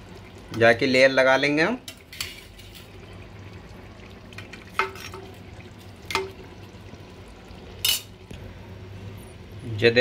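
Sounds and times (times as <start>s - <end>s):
soft sizzle from pot: 0.0s - 10.0s.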